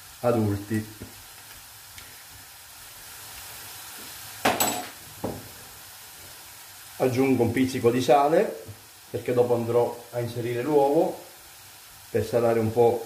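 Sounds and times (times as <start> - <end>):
potatoes sizzling in a pan: 0.0 - 13.0.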